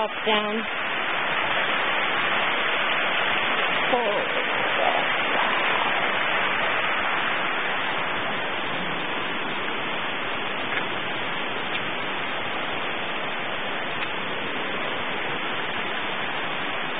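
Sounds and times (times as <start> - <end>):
steady rushing noise: 0.0 - 16.9.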